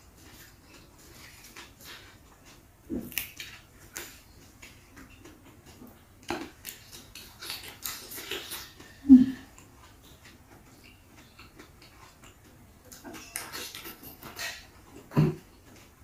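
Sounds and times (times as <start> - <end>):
crunching and chewing vegetables: 0.0 - 16.0.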